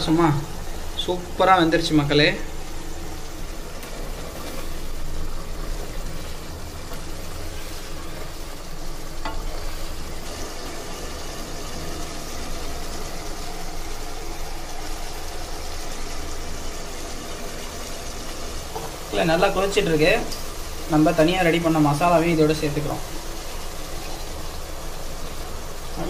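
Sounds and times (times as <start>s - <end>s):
gravy boiling and bubbling: 0.0s - 26.0s.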